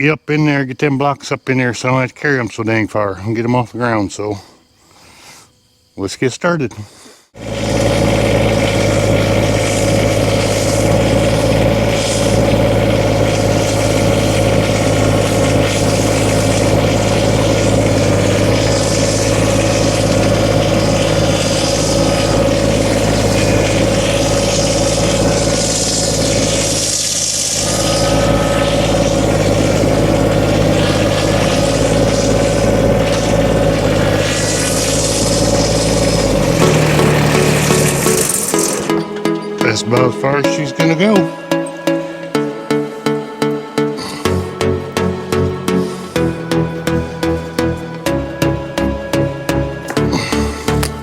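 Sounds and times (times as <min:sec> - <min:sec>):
tractor diesel engine running: 0:07.4 - 0:51.0.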